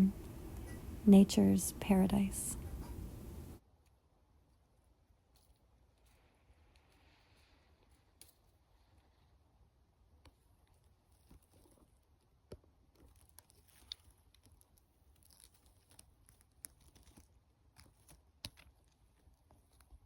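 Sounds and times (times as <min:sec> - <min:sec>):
faint small clicks and crackles: 0:02.6 - 0:20.0.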